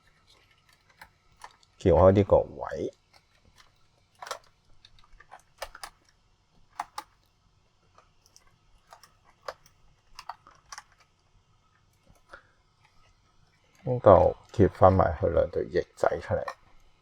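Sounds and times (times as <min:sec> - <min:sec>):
plastic toy parts clicking: 0:00.0 - 0:07.3, 0:07.9 - 0:11.2, 0:11.8 - 0:17.0.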